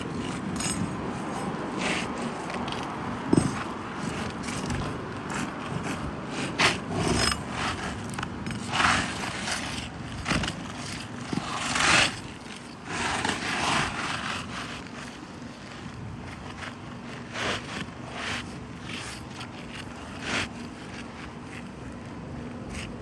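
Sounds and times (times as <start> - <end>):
scraping and rustling: 0.0 - 23.0.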